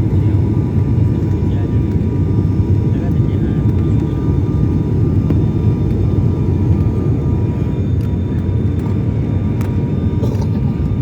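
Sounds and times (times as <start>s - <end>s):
airliner cabin engine rumble: 0.0s - 11.0s
faint steady whines: 0.0s - 11.0s.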